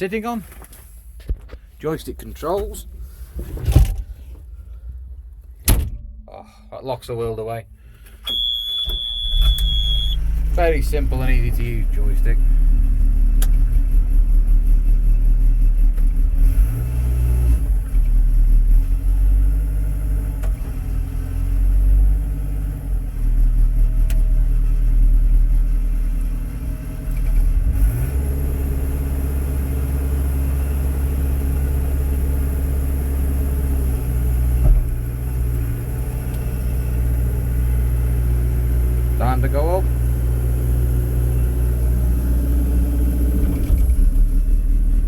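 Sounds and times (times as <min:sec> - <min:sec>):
diesel engine running: 0:01.8 - 0:45.0.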